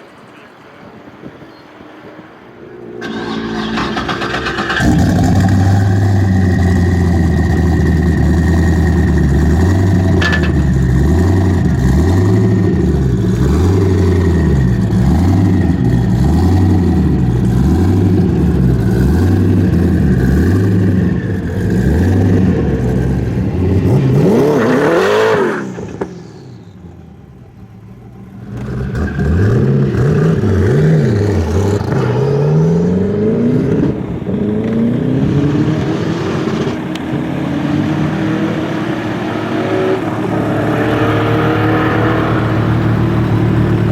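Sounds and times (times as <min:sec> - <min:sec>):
car engine revving: 0:02.6 - 0:43.9.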